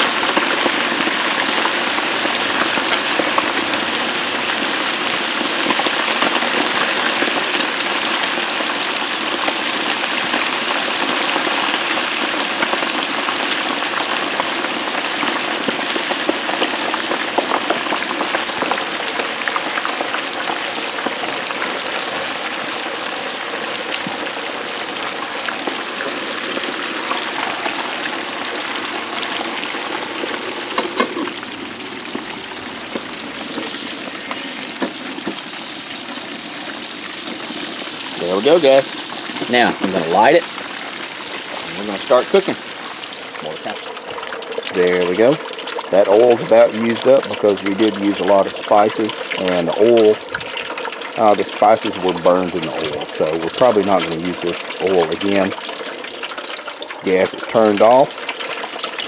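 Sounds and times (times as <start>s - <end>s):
oil bubbling and sizzling: 0.0s - 59.0s.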